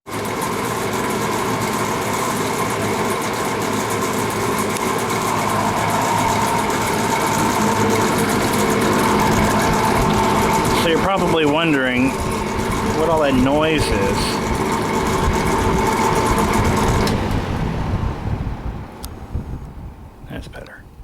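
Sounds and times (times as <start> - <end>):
box fan rattling loudly: 0.0 - 20.2.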